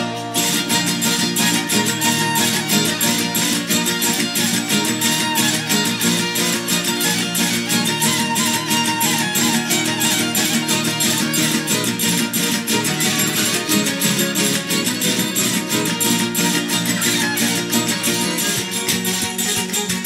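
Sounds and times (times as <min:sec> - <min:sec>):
strummed guitars and lute: 0:00.0 - 0:20.0.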